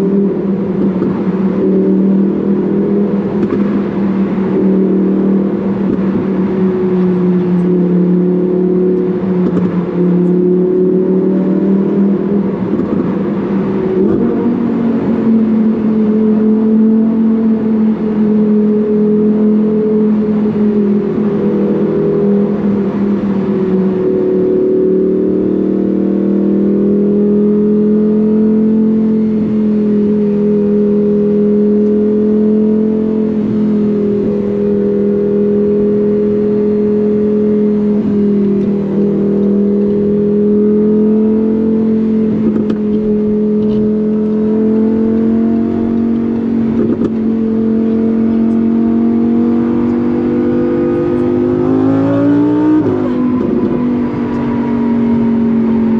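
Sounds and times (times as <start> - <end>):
sports car engine droning: 0.0 - 55.9.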